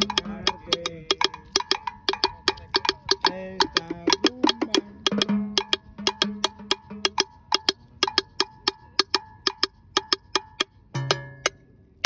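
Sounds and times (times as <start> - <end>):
low drum stroke: 0.0 - 11.6
ringing drum tones: 0.0 - 11.6
sharp percussion clicks: 0.0 - 11.6.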